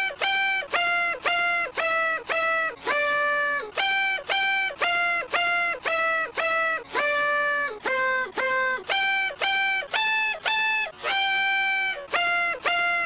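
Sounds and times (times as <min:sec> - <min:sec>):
recorder-like pipe tune: 0:00.0 - 0:13.0.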